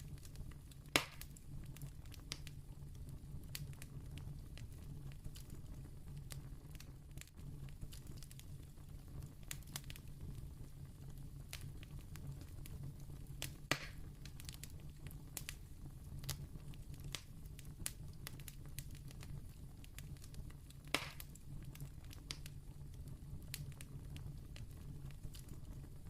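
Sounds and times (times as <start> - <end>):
candle flame crackling: 0.0 - 26.0.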